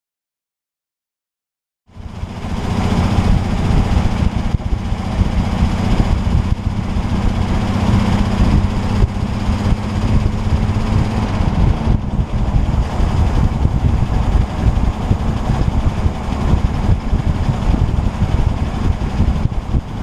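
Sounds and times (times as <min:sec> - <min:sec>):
car engine: 0:01.9 - 0:20.0.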